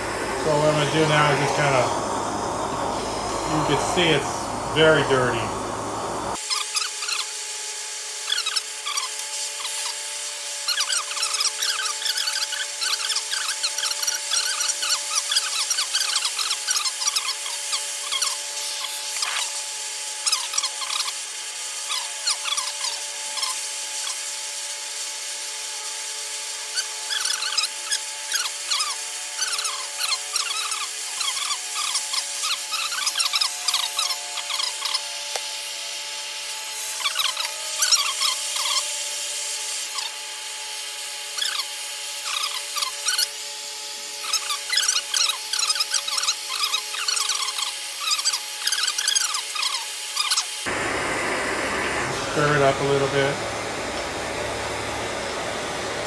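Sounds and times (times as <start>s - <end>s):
torch hissing: 0.0s - 56.0s.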